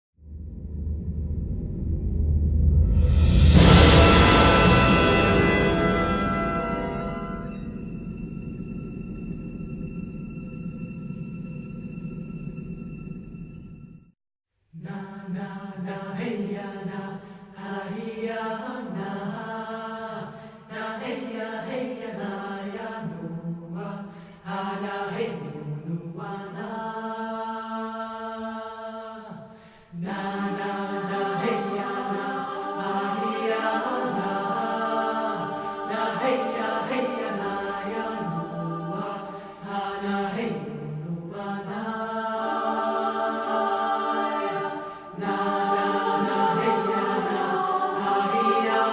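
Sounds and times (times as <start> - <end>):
choir-like chanting music: 2.9 - 13.7, 14.8 - 48.9.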